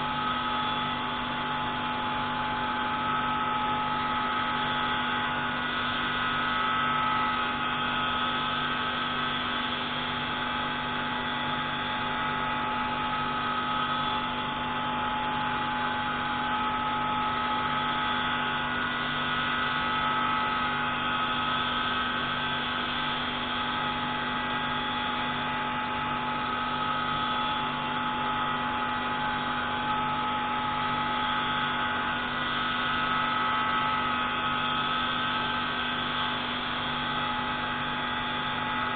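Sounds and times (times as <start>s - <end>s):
pneumatic grinder whine: 0.0s - 38.9s.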